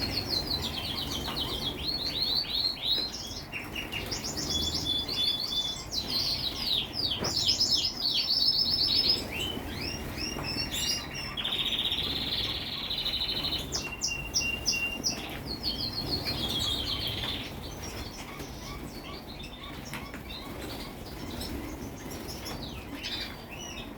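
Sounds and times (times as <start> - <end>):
small birds chirping and trilling: 0.0 - 23.9.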